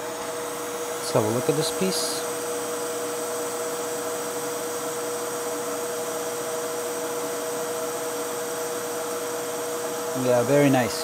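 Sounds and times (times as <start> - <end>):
fume extractor blower whirring: 0.0 - 11.0.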